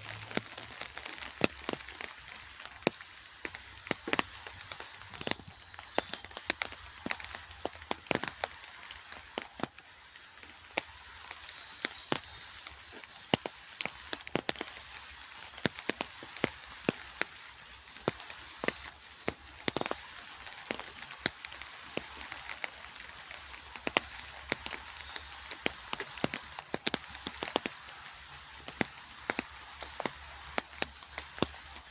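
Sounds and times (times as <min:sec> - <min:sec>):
raindrops tapping close by: 0:00.0 - 0:31.9
steady rainfall hiss: 0:00.0 - 0:31.9.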